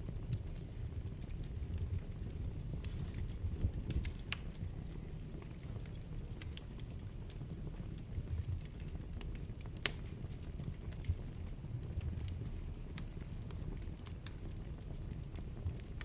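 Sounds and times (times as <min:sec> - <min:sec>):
fire crackling and popping: 0:00.0 - 0:16.0
fire flames rumbling: 0:00.0 - 0:16.0.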